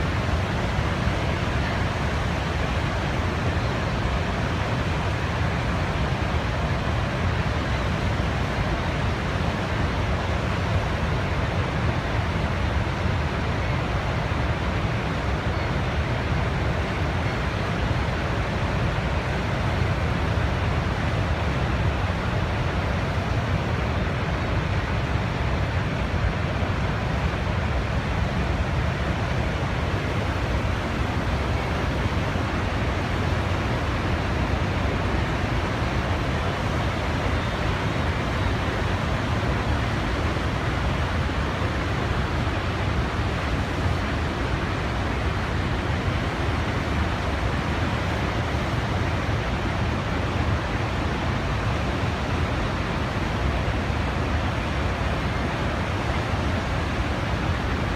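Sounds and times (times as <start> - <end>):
natural ambience rushing noise: 0.0 - 57.9.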